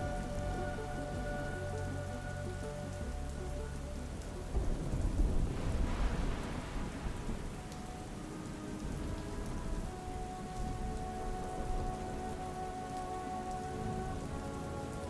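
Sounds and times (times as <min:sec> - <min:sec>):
ambient music held notes: 0:00.0 - 0:15.0
rain falling: 0:00.0 - 0:15.0
thunder rumbling: 0:00.0 - 0:15.0.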